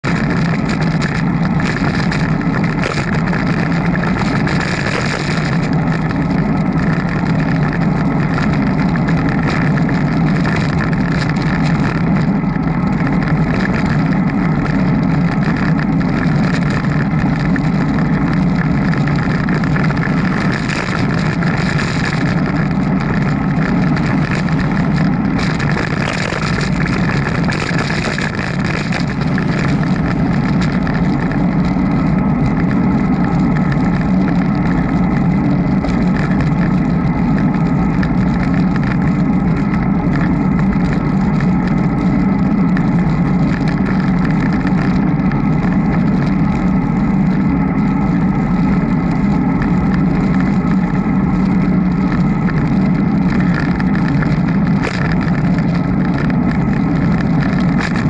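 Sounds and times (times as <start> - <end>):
bicycle ride noise: 0.0 - 58.0.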